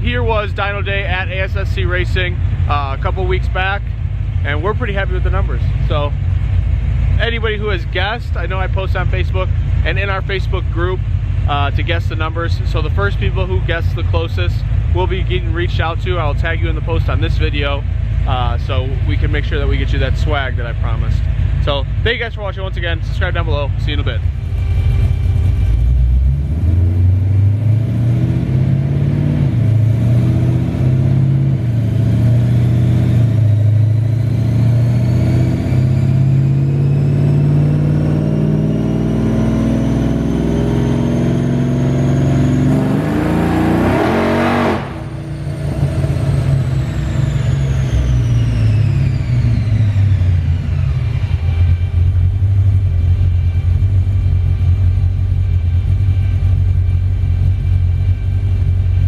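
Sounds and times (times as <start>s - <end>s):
whine coasting down: 0.0s - 59.0s
engine revving at full throttle: 4.4s - 57.1s.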